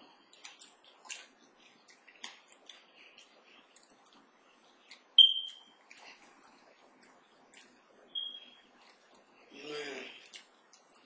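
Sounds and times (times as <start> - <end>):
chewing and crunching: 0.0 - 11.0.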